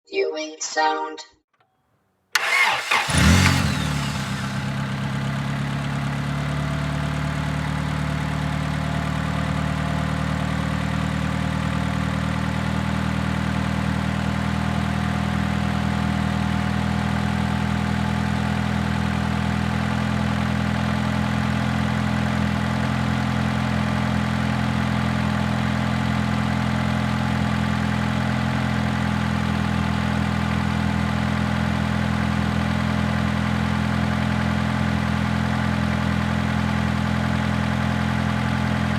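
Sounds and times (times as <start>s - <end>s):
car engine idling: 2.4s - 38.9s.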